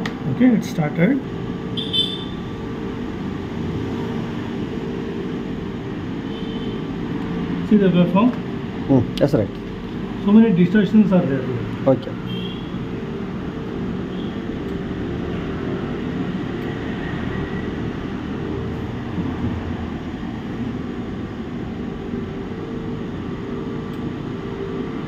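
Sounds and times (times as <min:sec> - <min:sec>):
machinery hum and rush: 0:00.0 - 0:25.0.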